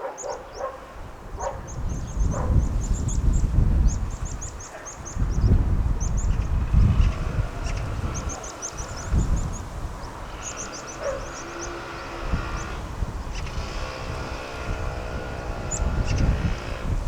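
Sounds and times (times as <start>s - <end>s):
small birds twittering: 0.0s - 17.0s
wind buffeting microphone: 0.0s - 17.0s.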